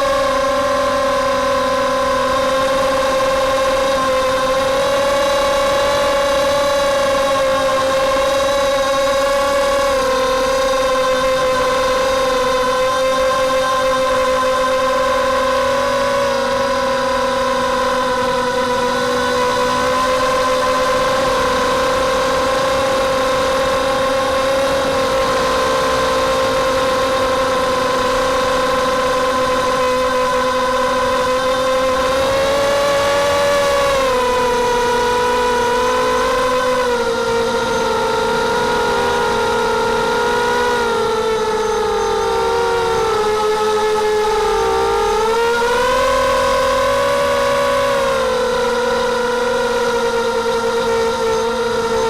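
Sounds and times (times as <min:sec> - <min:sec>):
quadcopter motors buzzing whine: 0:00.0 - 0:52.0.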